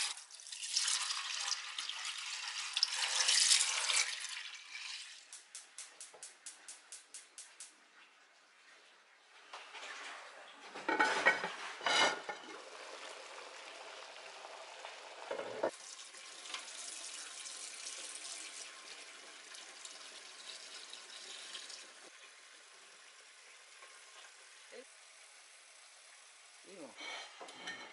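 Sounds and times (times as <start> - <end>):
water boiling with bubbling hiss: 0.0 - 27.9.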